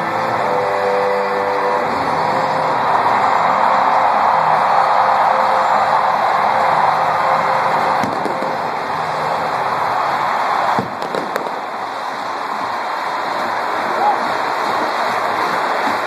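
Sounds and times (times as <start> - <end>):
stadium crowd cheering: 0.0 - 16.0.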